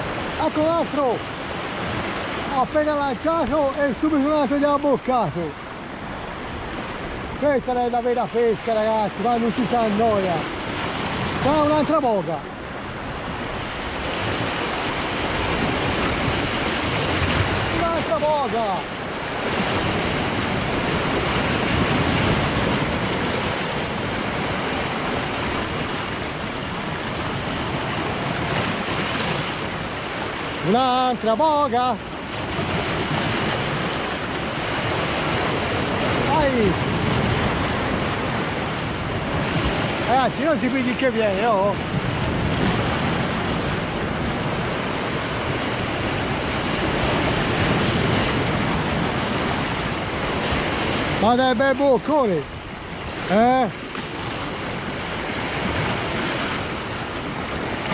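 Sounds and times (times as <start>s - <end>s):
waves breaking over rocks: 0.0s - 57.9s.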